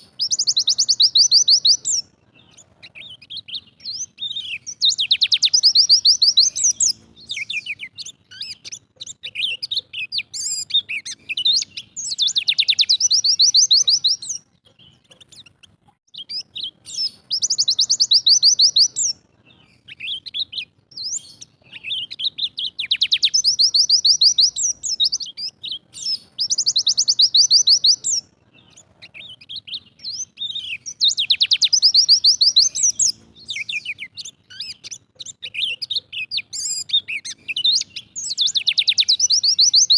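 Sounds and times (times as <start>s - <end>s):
bird singing rapid high notes: 0.0s - 39.9s
short bird chirps: 0.0s - 39.9s.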